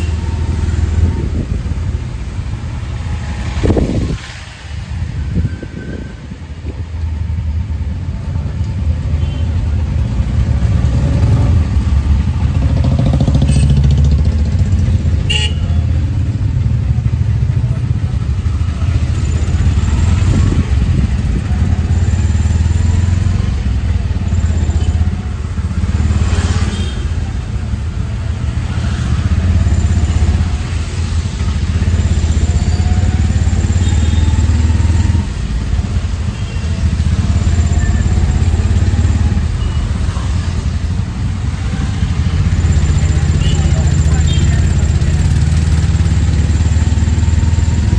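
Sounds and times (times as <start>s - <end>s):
auto-rickshaw engine running: 0.0s - 47.9s.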